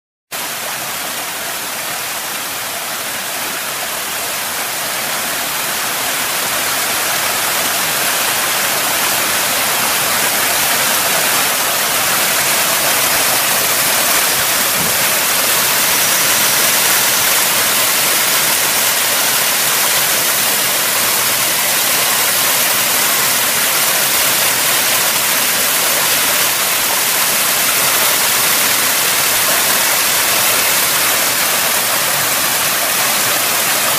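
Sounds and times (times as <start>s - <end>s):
waterfall rushing into pool: 0.4s - 33.9s.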